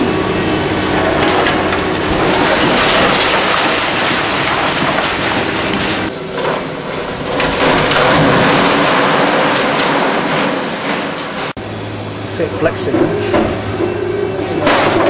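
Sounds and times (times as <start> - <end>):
concrete crunching and rattling: 0.0 - 11.6, 12.8 - 15.0
falling rubble: 0.0 - 11.6, 12.7 - 15.0
excavator engine running: 0.0 - 15.0.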